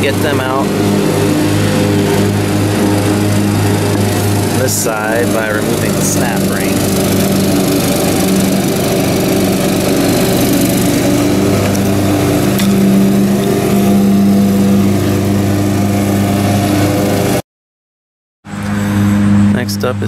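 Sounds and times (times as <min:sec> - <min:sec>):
small engine running: 0:00.0 - 0:17.4, 0:18.5 - 0:20.0.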